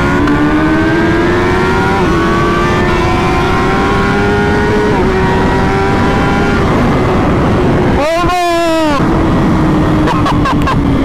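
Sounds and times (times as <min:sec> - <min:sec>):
heavy wind rush: 0:00.0 - 0:11.0
motorcycle engine accelerating: 0:00.0 - 0:11.0.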